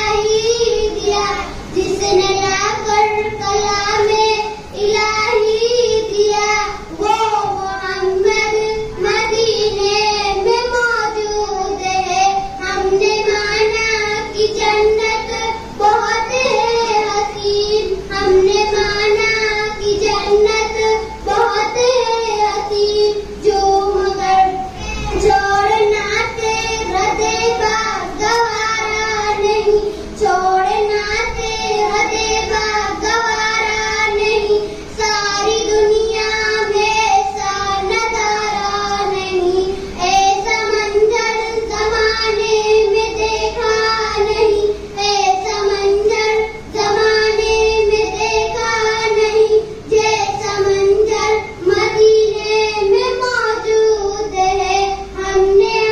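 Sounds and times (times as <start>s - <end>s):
girl singing into a microphone: 0.0s - 55.9s.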